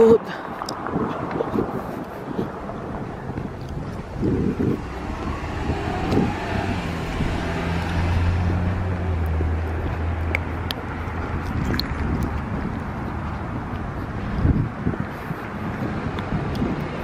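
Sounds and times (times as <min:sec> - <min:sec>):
general traffic: 0:00.0 - 0:17.0
vehicle engine humming: 0:00.0 - 0:17.0.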